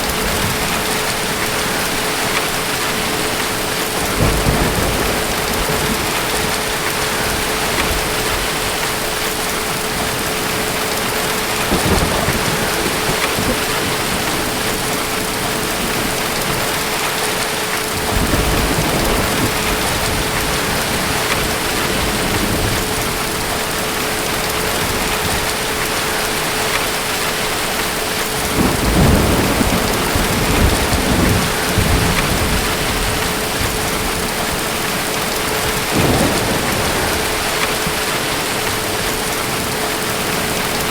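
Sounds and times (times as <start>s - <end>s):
distant thunder rumbling: 0.0s - 40.9s
heavy rain: 0.0s - 40.9s.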